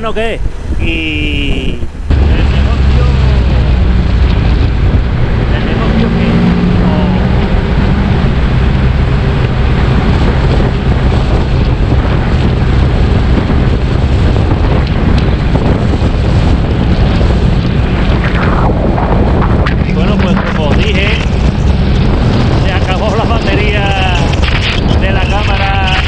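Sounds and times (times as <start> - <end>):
wind rushing over microphone: 0.0 - 26.0
motorcycle engine drone: 0.5 - 26.0.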